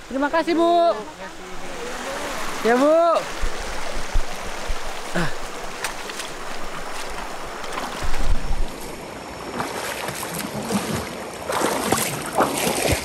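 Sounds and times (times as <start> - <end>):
river water rushing: 0.0 - 13.0
short splashes: 1.8 - 13.0.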